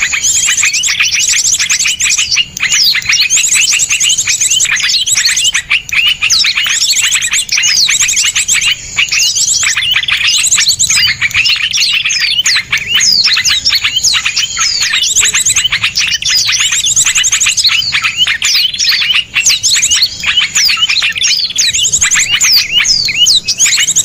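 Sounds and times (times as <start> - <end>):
songbirds trilling: 0.0 - 24.0.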